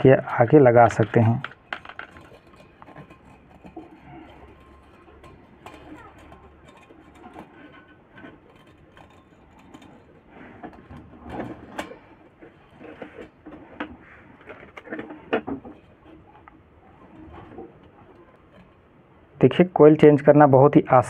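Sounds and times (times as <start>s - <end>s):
wire clicking and scraping: 0.0s - 19.7s.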